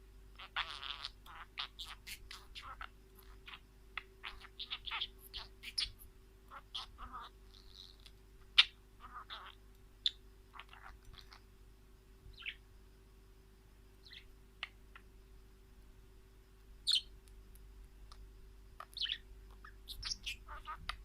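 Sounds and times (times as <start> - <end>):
small birds chirping: 0.3 - 15.6, 16.3 - 21.0.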